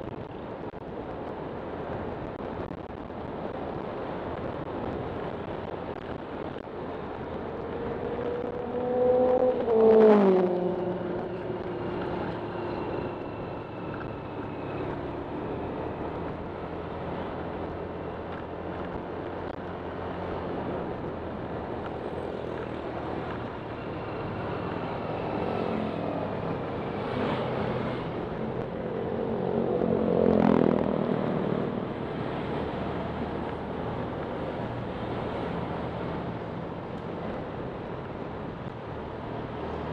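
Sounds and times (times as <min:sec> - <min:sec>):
vehicles passing: 0:00.0 - 0:39.9
wind and road noise: 0:00.0 - 0:39.9.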